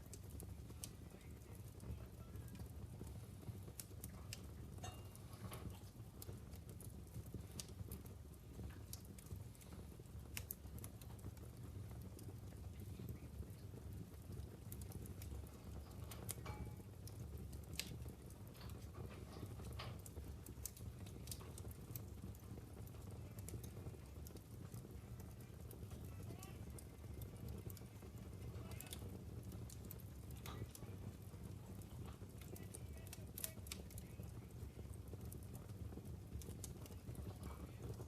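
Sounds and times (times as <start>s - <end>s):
fire crackling and popping: 0.0s - 38.0s
low rumble of fire: 0.0s - 38.0s.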